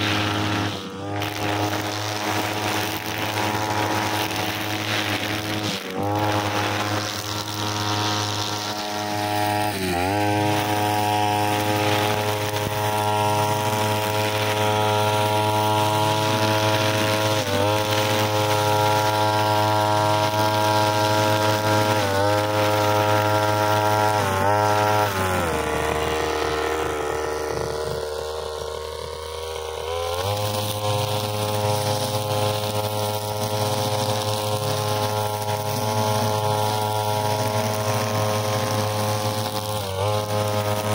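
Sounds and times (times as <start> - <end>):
brushcutter engine cutting grass: 0.0 - 40.9.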